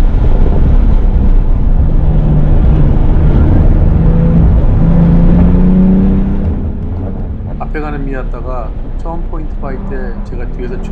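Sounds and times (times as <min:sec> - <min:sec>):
car engine at speed: 0:00.0 - 0:10.9
road and wind noise: 0:00.0 - 0:10.9.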